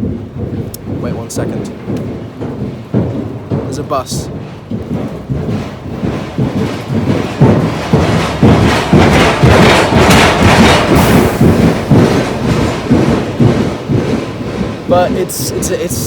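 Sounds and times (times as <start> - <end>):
bridge deck banging heavy thumps: 0.0 - 16.0
bus crossing bridge: 0.0 - 16.0.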